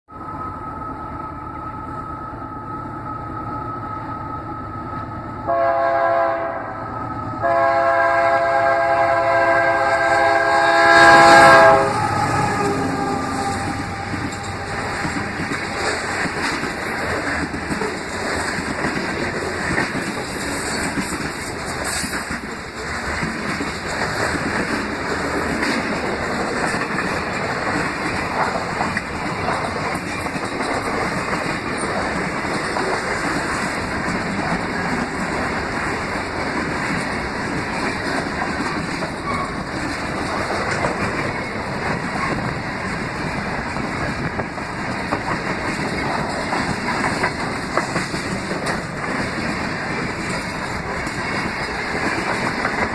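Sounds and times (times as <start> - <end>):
diesel locomotives passing: 0.1 - 52.9
train wheels rumbling on rails: 0.1 - 52.9.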